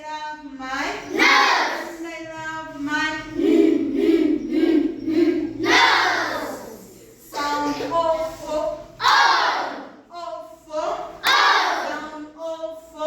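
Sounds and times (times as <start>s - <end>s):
children chanting in unison: 0.9s - 13.0s.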